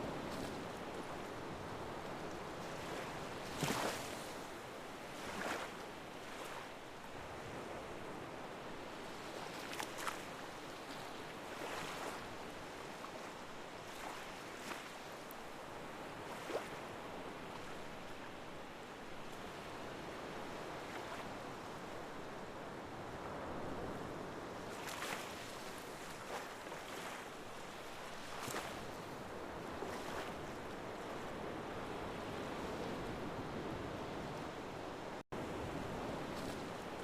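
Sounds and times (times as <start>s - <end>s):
small waves splashing: 0.0s - 34.4s, 35.1s - 37.0s.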